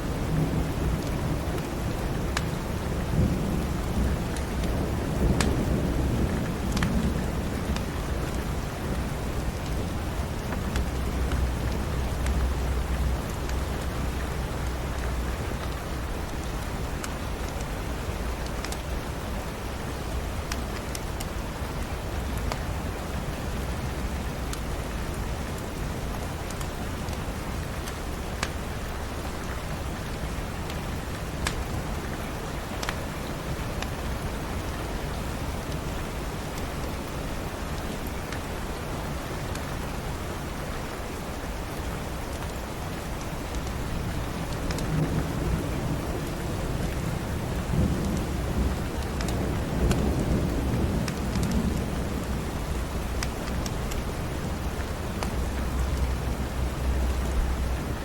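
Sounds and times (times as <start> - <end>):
steady rain: 0.0 - 58.0
wood fire crackling: 0.9 - 40.5, 41.3 - 58.0.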